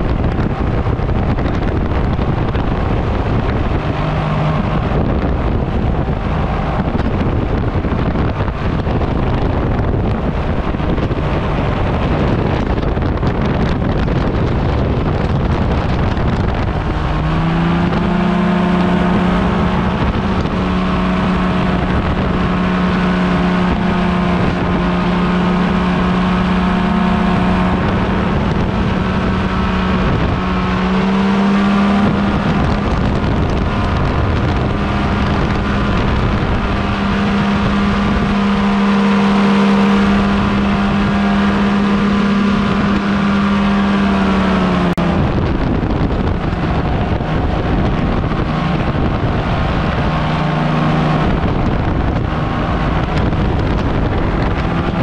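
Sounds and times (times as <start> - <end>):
paramotor engine drone: 0.0 - 55.0
wind on microphone: 0.0 - 55.0.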